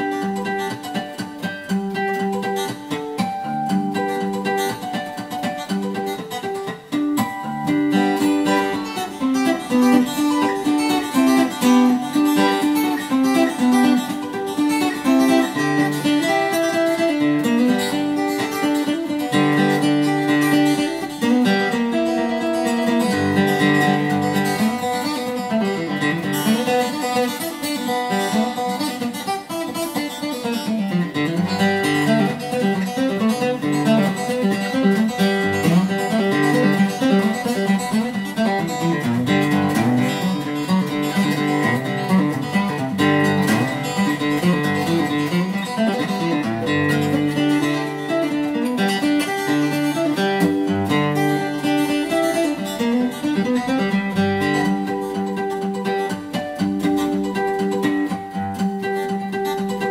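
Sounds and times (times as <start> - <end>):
fingerpicked acoustic guitar: 0.0 - 59.9.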